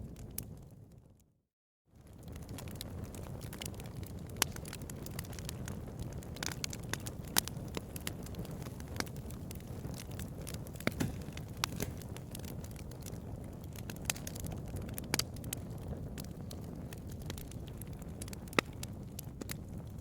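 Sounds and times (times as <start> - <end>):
fire crackling and popping: 0.0 - 1.2, 2.0 - 20.0
low sound of flames: 0.0 - 1.3, 1.9 - 20.0.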